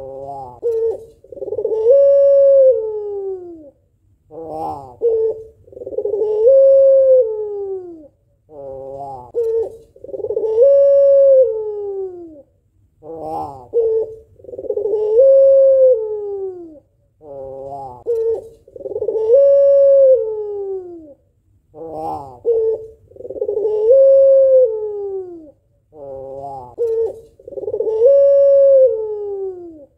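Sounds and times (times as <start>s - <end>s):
dove cooing: 0.0s - 29.9s.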